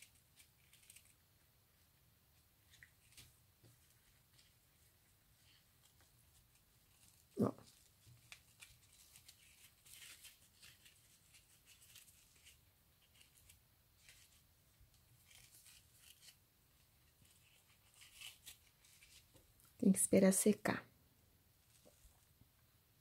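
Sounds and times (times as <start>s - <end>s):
rustling of ribbon: 0.0s - 20.0s, 21.6s - 22.4s.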